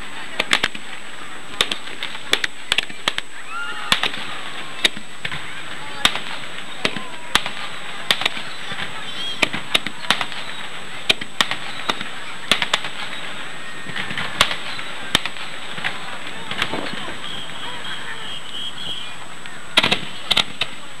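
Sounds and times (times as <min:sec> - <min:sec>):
fireworks bangs and crackles: 0:00.0 - 0:21.0
steady background hiss: 0:00.0 - 0:21.0.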